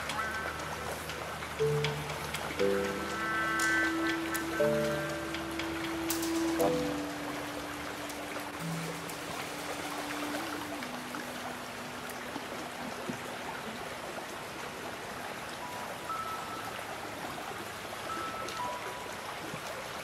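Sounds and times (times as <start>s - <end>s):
soft music: 0.0s - 20.0s
stream running over stones: 0.0s - 20.0s.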